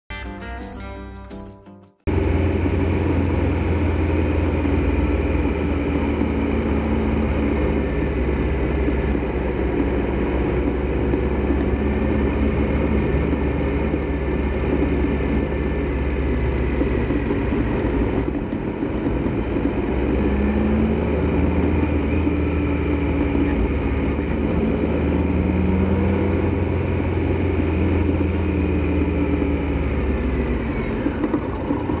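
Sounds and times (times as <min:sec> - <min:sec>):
motorcycle engine running: 0:02.1 - 0:32.0.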